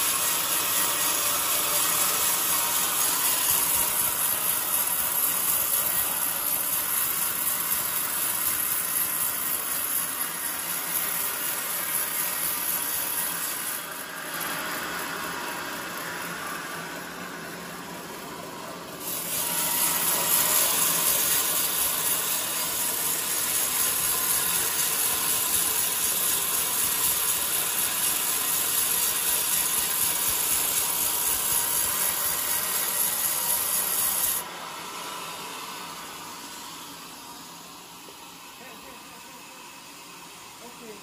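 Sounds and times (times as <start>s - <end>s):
band saw cutting log: 0.0s - 41.0s
saw running: 0.0s - 41.0s.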